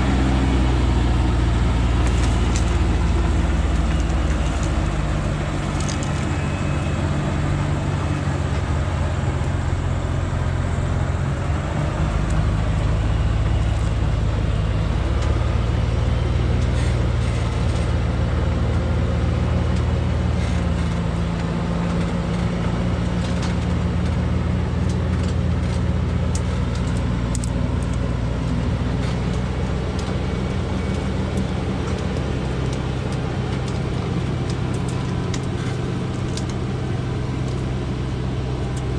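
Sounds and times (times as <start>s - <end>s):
truck engine running under load: 0.0s - 38.9s.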